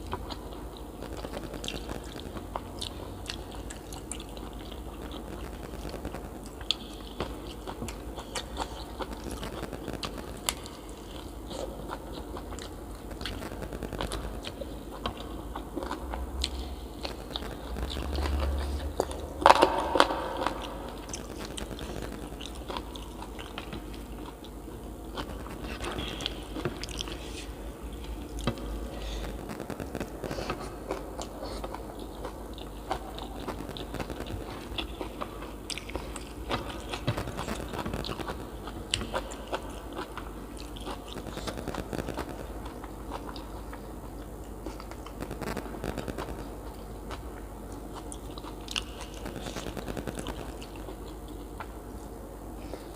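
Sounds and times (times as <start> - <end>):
person chewing and crunching: 0.0 - 52.9.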